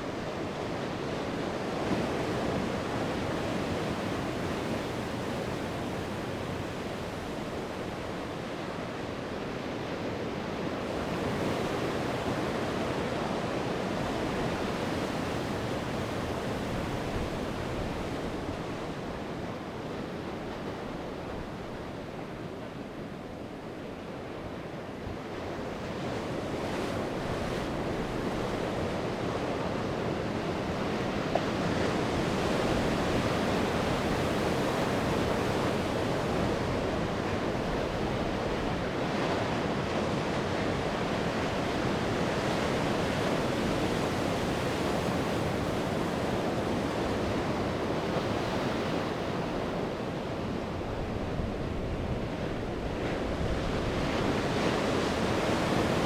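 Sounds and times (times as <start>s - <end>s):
sea waves breaking on shore: 0.0s - 56.0s
wind blowing across microphone: 0.0s - 56.0s.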